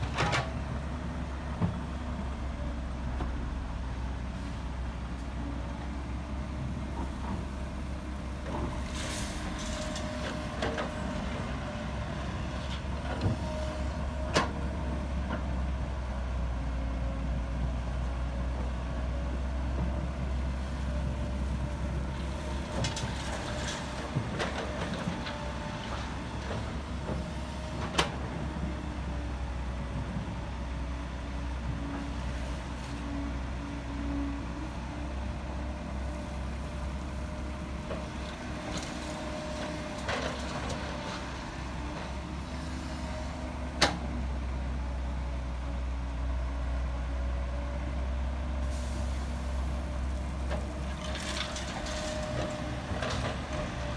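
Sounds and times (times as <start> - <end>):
diesel machinery rumbling: 0.0 - 53.9.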